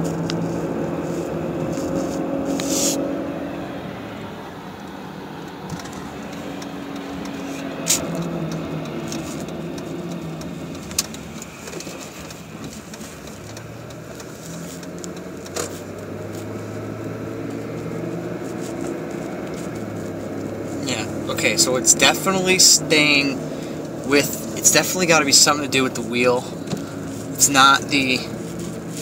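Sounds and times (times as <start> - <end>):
car driving with low drone: 0.0 - 29.0.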